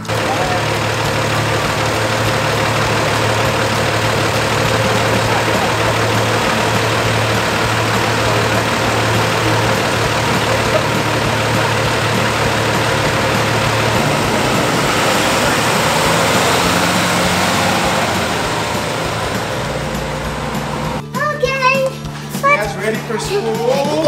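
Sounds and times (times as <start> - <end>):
bus engine idling: 0.0 - 21.3.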